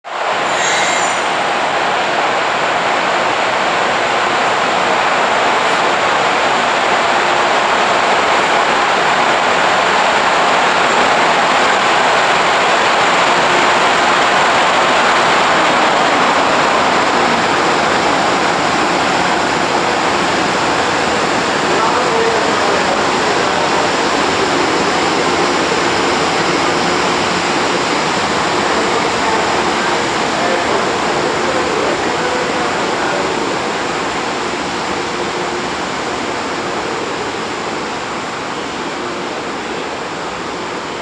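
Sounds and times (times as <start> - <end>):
freight train braking: 0.1 - 41.0.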